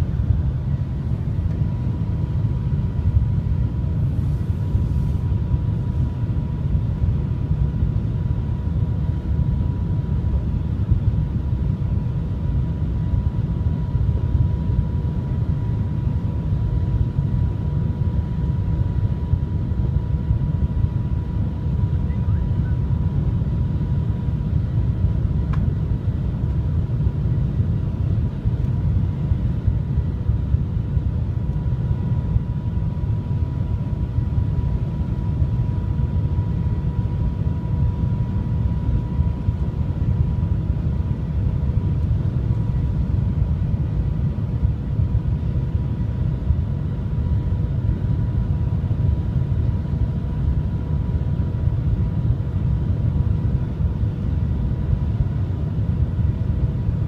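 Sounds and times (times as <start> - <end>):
faint steady whine: 0.0 - 57.0.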